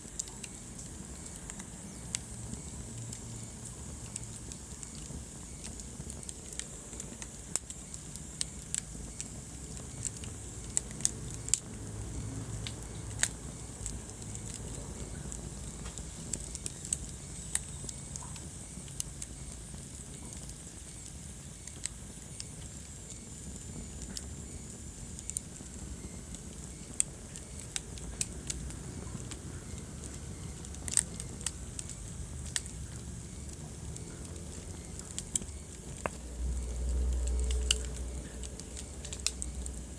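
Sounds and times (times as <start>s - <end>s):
fire popping and snapping: 0.0s - 39.9s
low rumble of burning logs: 0.0s - 39.9s.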